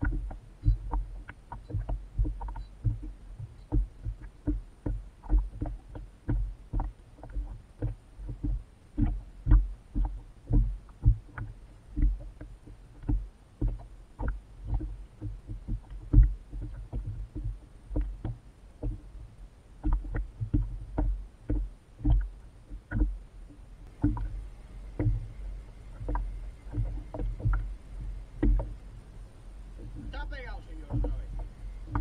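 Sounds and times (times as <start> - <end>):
water slapping against hull: 0.0 - 32.0.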